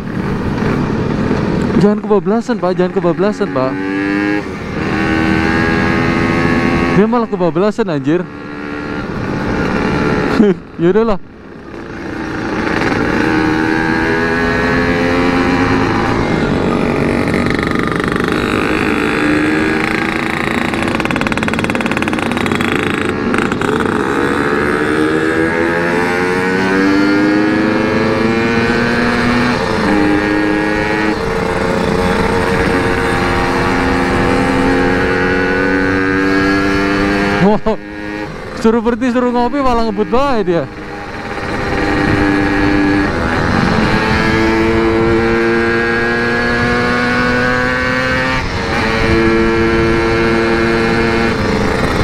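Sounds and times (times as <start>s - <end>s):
two-stroke motorcycle engine accelerating: 0.0s - 52.0s.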